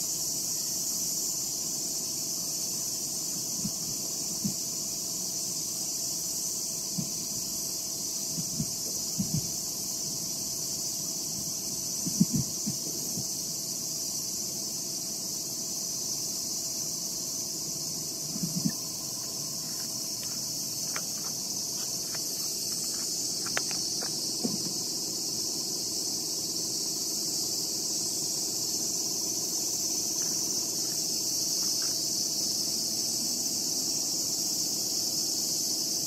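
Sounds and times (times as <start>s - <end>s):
insects chorus shrilling: 0.0s - 36.0s.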